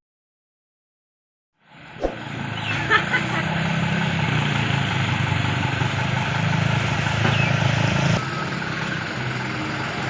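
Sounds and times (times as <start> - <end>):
truck diesel engine running: 1.7 - 10.0.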